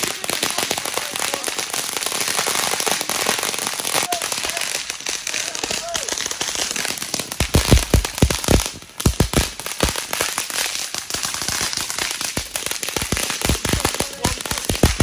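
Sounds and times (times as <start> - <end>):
firework bangs: 0.0 - 15.0
firework hissing and crackling: 0.0 - 15.0.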